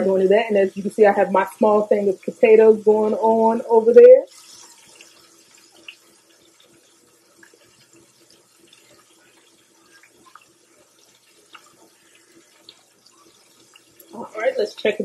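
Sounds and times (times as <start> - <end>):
patties sizzling in oil: 0.0 - 15.0.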